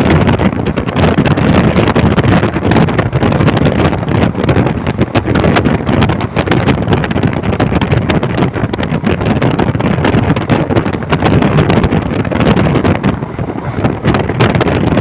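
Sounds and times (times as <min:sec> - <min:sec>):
train rumbling and rattling: 0:00.0 - 0:15.0
wind buffeting microphone: 0:00.0 - 0:15.0.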